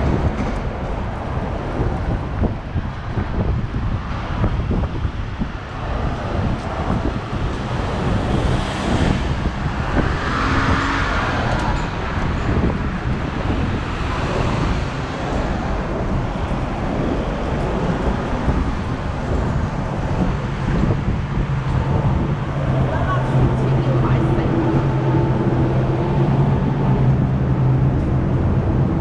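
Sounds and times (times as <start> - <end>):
road traffic noise: 0.0 - 29.0
vehicle passing: 4.3 - 29.0.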